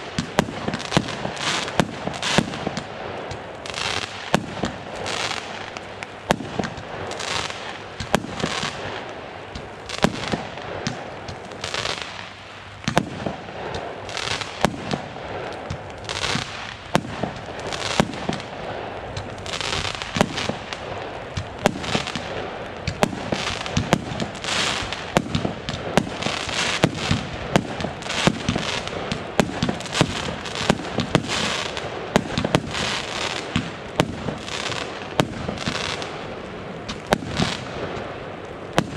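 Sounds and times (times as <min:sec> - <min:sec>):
fireworks bangs: 0:00.0 - 0:38.9
fireworks hiss: 0:00.0 - 0:38.9.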